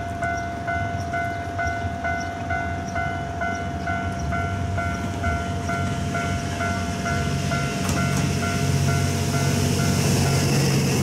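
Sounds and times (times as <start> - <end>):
diesel railcar engine rumble: 0.0 - 11.0.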